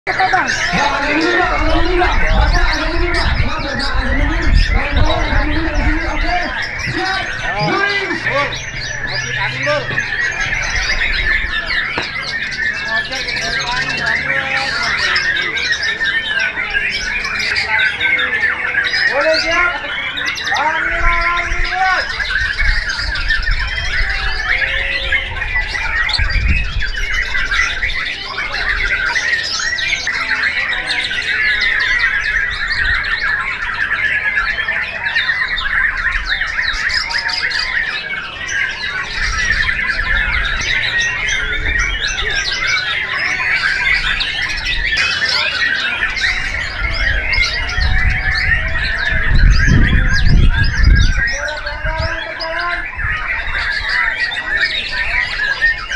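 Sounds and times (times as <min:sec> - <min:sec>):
other songbirds singing: 0:00.1 - 0:55.9
songbird singing: 0:00.1 - 0:55.9.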